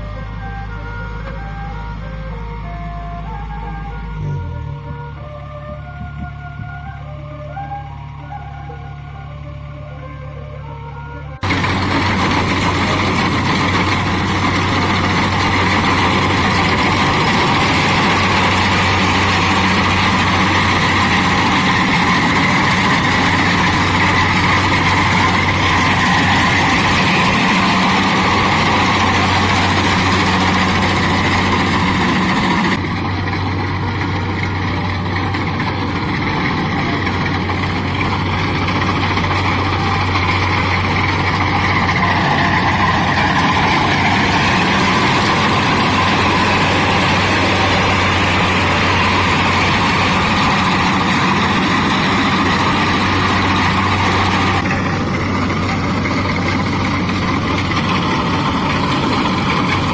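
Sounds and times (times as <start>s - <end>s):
diesel engine running: 0.0s - 59.9s
threshing and cutting noise: 11.4s - 59.9s.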